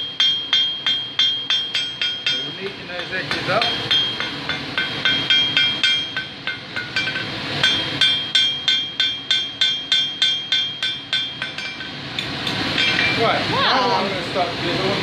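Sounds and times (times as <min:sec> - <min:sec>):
hammer striking steel on anvil: 0:00.0 - 0:13.3.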